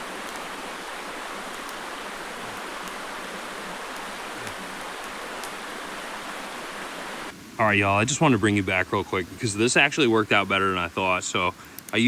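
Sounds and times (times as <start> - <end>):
creek flowing over rocks: 0.0 - 11.2.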